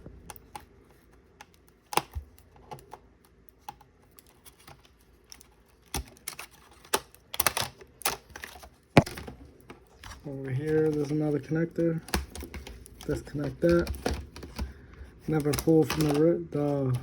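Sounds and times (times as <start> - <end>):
laptop keyboard and connectors clicking: 0.0 - 10.1, 11.8 - 16.3.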